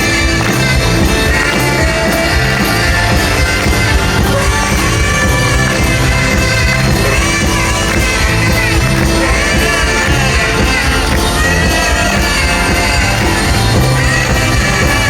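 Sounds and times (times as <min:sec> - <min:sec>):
lead singer singing: 0:00.0 - 0:15.0
rock band playing loudly: 0:00.0 - 0:15.0.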